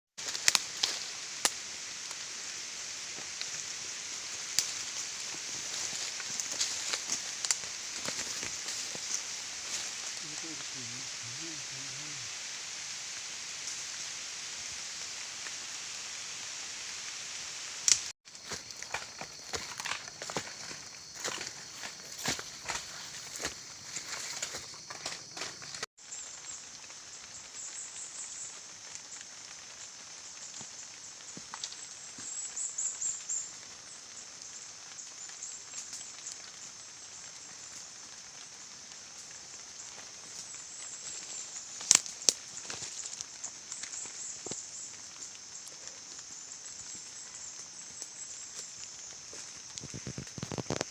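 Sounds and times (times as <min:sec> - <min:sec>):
high outdoor hiss: 0:00.2 - 0:50.9.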